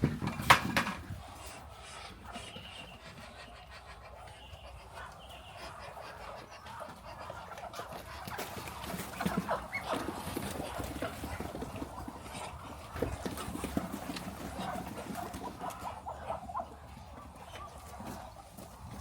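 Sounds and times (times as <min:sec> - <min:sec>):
poultry clucking: 0:00.0 - 0:19.0.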